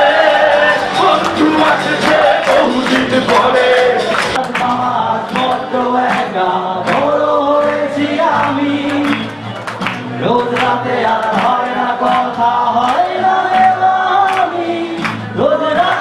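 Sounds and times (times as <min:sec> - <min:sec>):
man singing into microphone: 0:00.0 - 0:09.5, 0:10.1 - 0:16.0.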